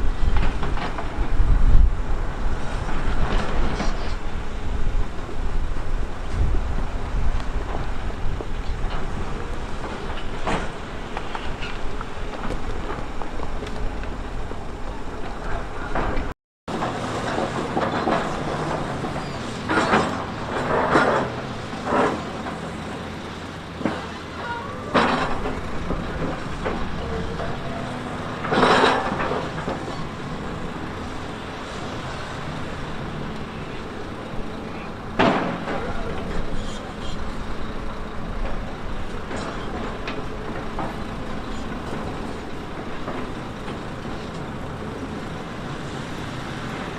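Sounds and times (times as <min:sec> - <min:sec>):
heavy diesel engine under load: 0:00.0 - 0:46.9.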